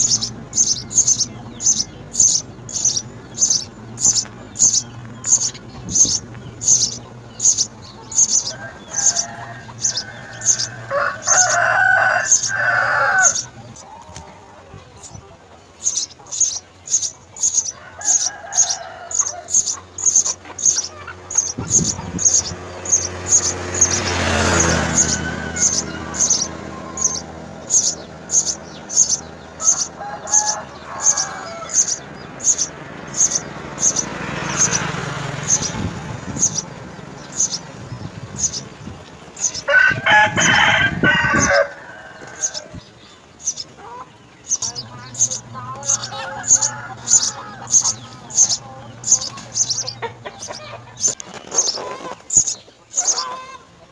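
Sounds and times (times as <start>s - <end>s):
rooster crowing: 0.0s - 14.7s, 17.5s - 37.7s, 39.3s - 51.2s
small bird chirping: 0.0s - 39.8s, 40.9s - 53.8s.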